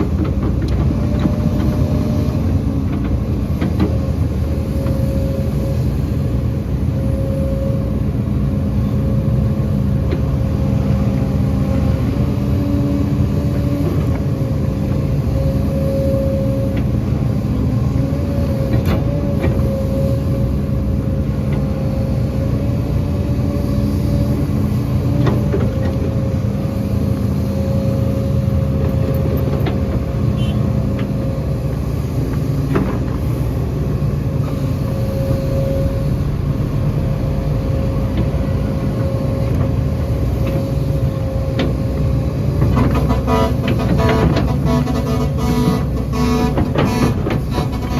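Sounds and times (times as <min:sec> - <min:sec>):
excavator diesel engine rumbling: 0:00.0 - 0:47.9.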